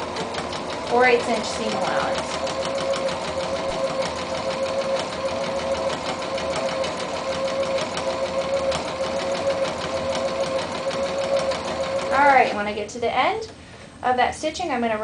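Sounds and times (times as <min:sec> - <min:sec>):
sewing machine running: 0:00.0 - 0:12.6.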